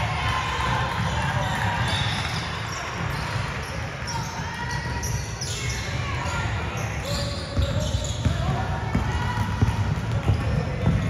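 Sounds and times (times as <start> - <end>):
voices in echoing hall: 0.0 - 11.0
basketball bouncing on court: 0.5 - 11.0.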